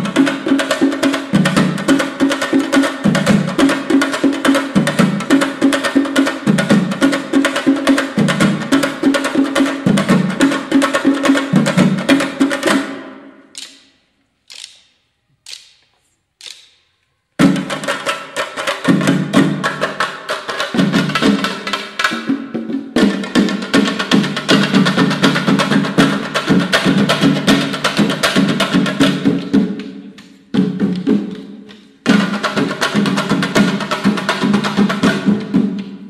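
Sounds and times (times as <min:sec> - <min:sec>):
drums beaten with sticks: 0:00.0 - 0:13.7, 0:17.4 - 0:36.0.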